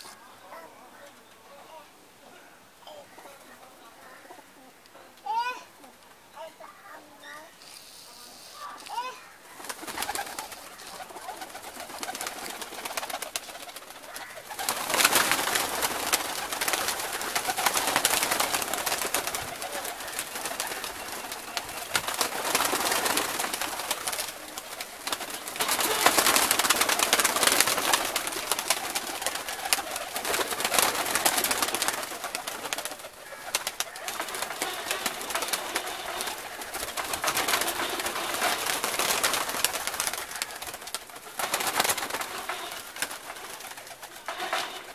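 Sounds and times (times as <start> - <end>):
pigeons cooing: 0.0 - 6.0, 6.6 - 44.9
pigeon wings flapping: 8.7 - 44.9.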